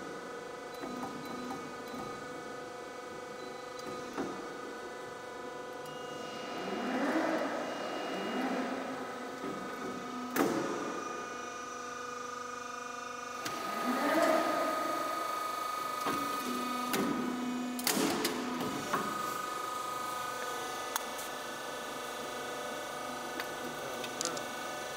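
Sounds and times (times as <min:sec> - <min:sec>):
roll forming machine motor whine: 0:04.3 - 0:24.9.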